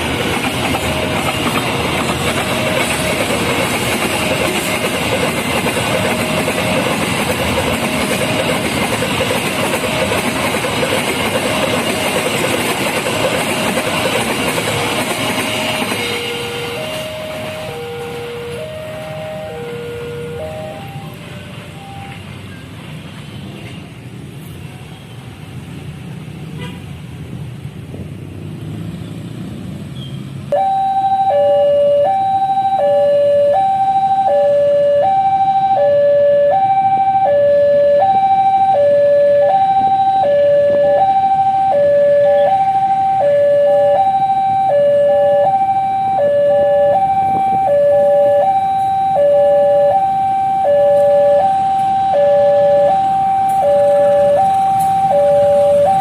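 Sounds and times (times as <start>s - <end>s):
two-tone level-crossing siren: 0.0s - 22.3s, 30.5s - 56.0s
road traffic rumble: 0.0s - 56.0s.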